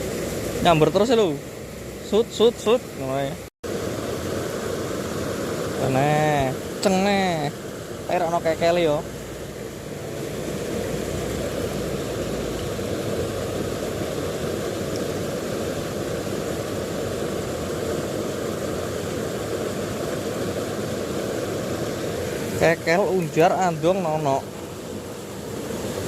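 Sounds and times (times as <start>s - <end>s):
stream water over rocks: 0.0s - 26.0s.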